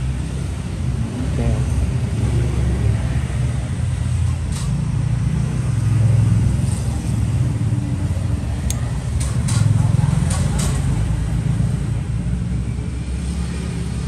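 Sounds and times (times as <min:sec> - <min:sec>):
motor traffic rumble: 0:00.0 - 0:14.0.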